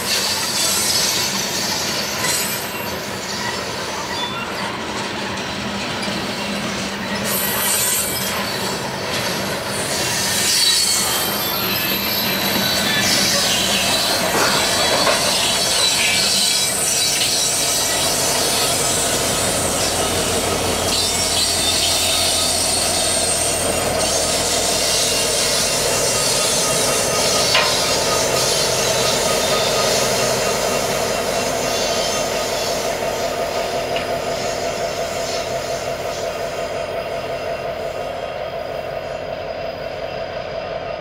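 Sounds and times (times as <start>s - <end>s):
diesel locomotive passing: 0.0s - 41.0s
rail cars rolling by: 0.0s - 41.0s
steel wheels squealing: 0.0s - 41.0s.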